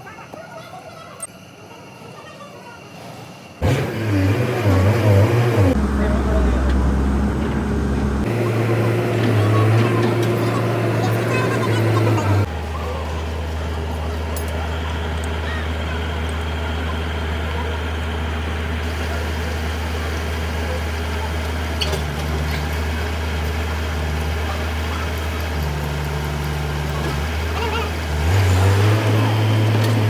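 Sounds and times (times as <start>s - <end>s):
engine idling with low hum: 3.6s - 30.0s.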